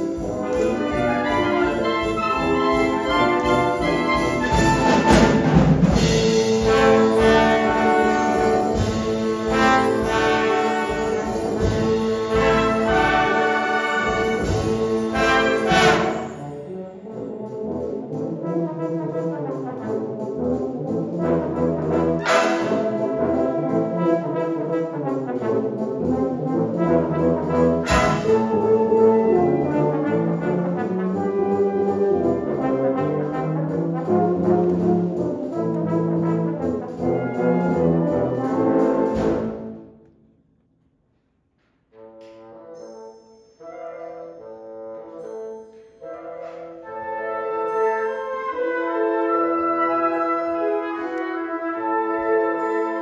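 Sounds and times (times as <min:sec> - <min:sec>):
wind band playing: 0:00.0 - 0:40.0, 0:42.0 - 0:53.0.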